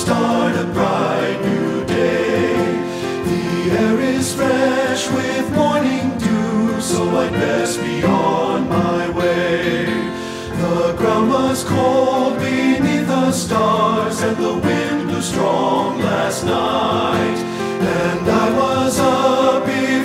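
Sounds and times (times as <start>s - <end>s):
men's choir singing: 0.0s - 20.0s
piano accompaniment: 0.0s - 20.0s.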